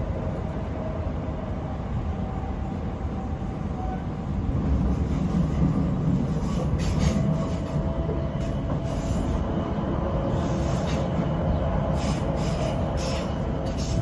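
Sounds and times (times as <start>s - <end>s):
electric train rumbling on rails: 0.0s - 14.0s.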